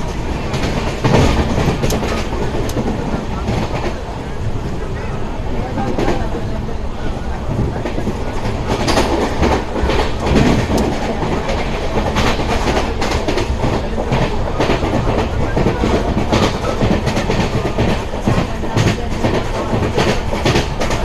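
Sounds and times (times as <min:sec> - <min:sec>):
wheels clacking over rail joints: 0:00.0 - 0:04.0, 0:07.6 - 0:21.0
train rumble and rushing air: 0:00.0 - 0:21.0.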